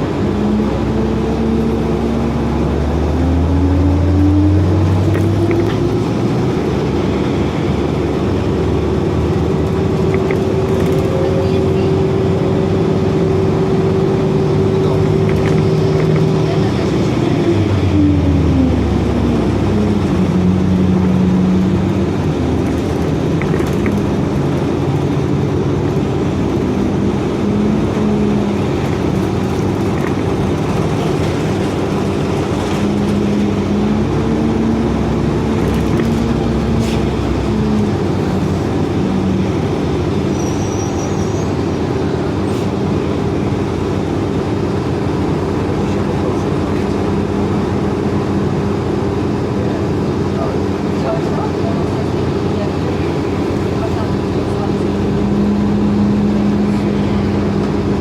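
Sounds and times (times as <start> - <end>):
bus drivetrain and road drone: 0.0 - 58.0.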